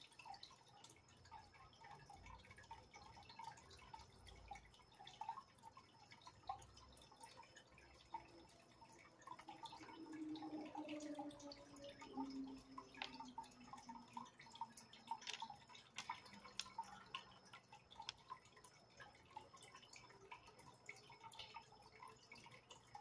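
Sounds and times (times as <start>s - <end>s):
water dripping and trickling: 0.0s - 23.0s.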